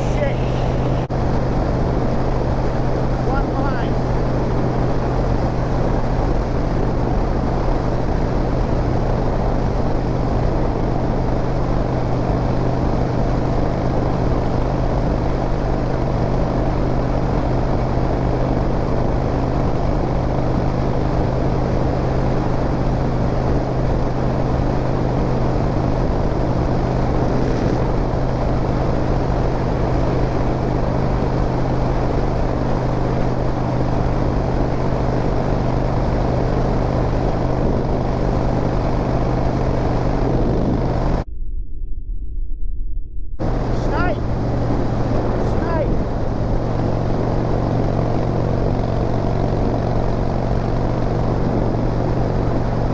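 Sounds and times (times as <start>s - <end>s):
motorcycle engine cruising: 0.0s - 41.3s, 43.4s - 52.9s.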